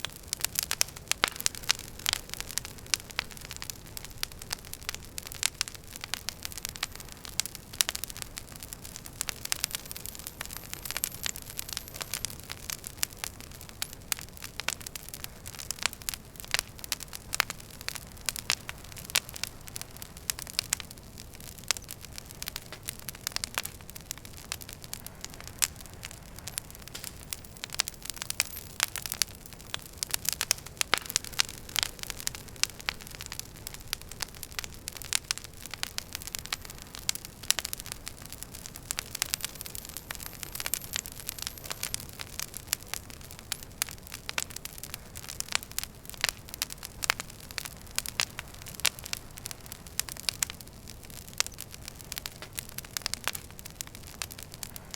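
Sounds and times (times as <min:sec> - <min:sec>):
fire pops and snaps: 0:00.0 - 0:54.9
low rumble of burning: 0:00.0 - 0:54.9.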